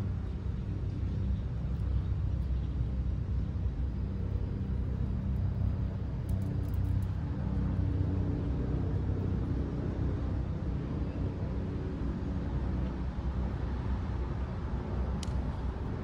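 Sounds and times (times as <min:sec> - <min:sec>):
faint hum: 0:00.0 - 0:16.0
low motor rumble: 0:00.0 - 0:16.0.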